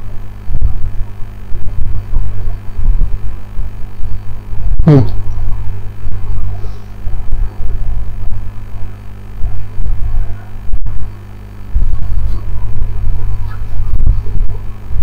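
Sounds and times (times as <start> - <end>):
loud low throbbing hum: 0.0 - 15.0.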